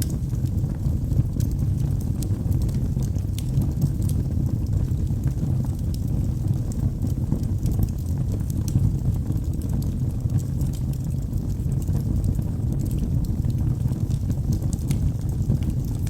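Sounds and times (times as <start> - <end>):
low rumble of flames: 0.0 - 16.0.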